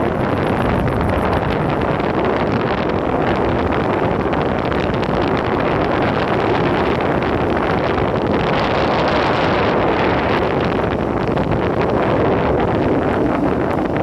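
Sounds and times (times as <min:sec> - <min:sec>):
wind rushing across microphone: 0:00.0 - 0:14.0.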